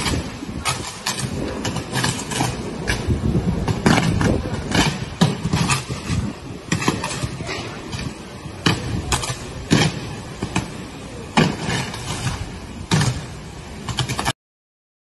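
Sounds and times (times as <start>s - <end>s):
hurricane wind: 0.0s - 14.3s
power lines arcing cracks: 0.0s - 14.3s
rain: 0.0s - 14.4s.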